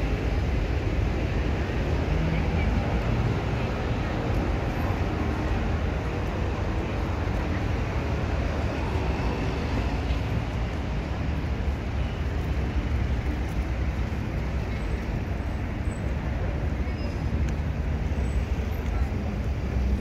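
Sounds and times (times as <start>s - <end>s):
passing cars rumbling: 0.0s - 20.0s.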